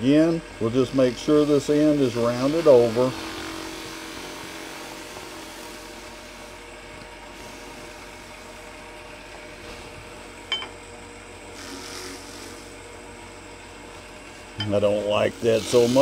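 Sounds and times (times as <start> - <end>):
wood lathe running: 0.0 - 10.5, 11.3 - 16.0.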